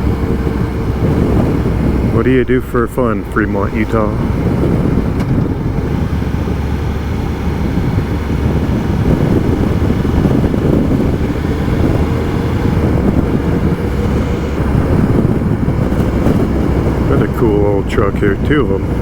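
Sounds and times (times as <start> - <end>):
motorcycle engine cruising: 0.0 - 19.0
wind rush on microphone: 0.0 - 19.0.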